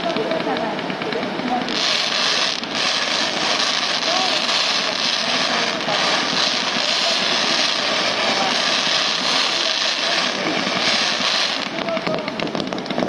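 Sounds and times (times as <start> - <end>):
fireworks roar: 0.0 - 13.0.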